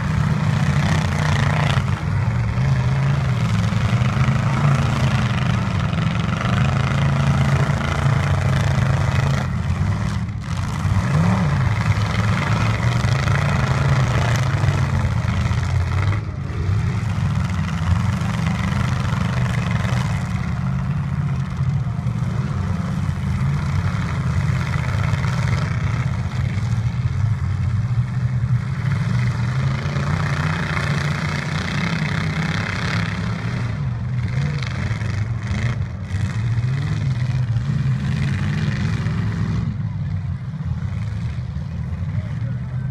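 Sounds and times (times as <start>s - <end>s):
truck engines revving: 0.0s - 42.9s.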